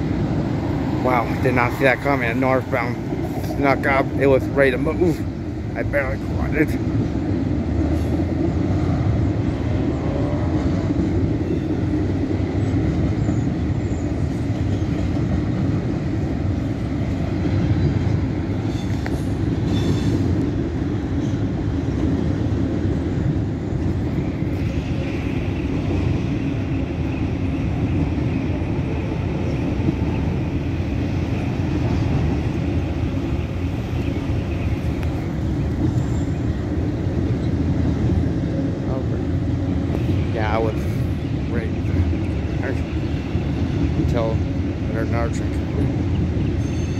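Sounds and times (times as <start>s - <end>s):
freight train rumble and clatter: 0.0s - 46.9s.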